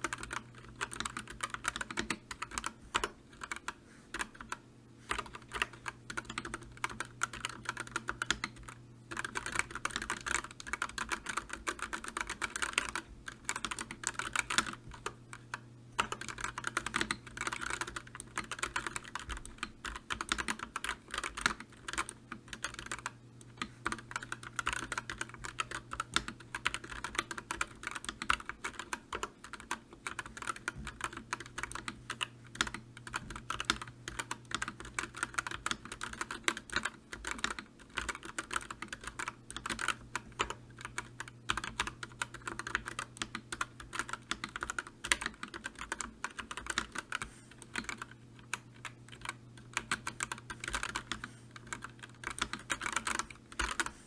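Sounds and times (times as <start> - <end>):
faint low hum: 0.0 - 54.0
fast typing on keyboard: 0.0 - 54.0.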